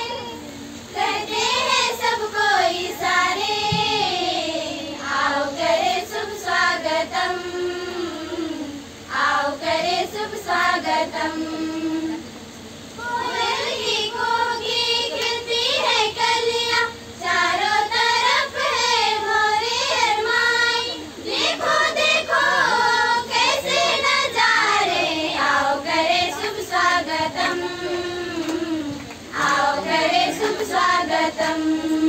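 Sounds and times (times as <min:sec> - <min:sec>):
girls singing in unison: 0:00.0 - 0:32.0.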